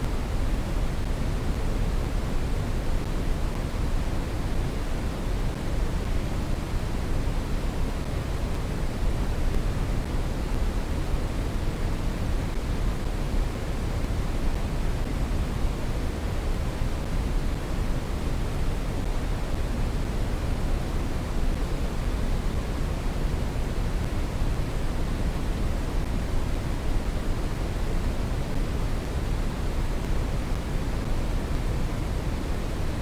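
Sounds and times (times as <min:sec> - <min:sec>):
brown noise hiss: 0:00.0 - 0:33.0.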